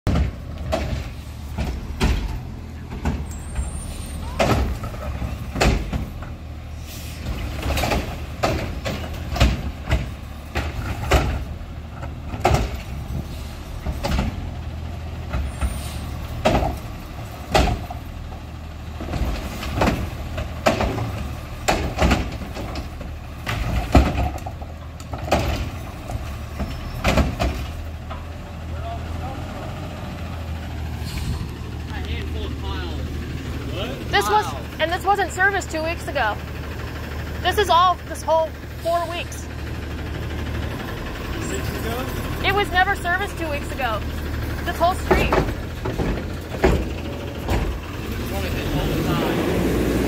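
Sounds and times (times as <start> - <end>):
carts banging and clattering: 0.0 - 50.0
diesel engine running: 0.0 - 50.0.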